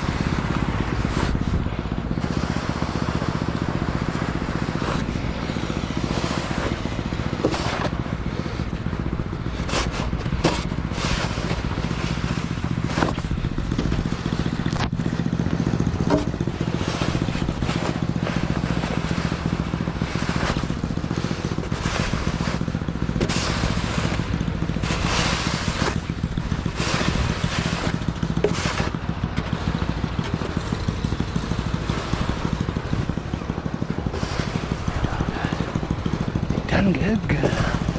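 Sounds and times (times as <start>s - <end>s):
snowblower engine running: 0.0s - 37.9s
snowblower scraping snow: 0.0s - 37.9s.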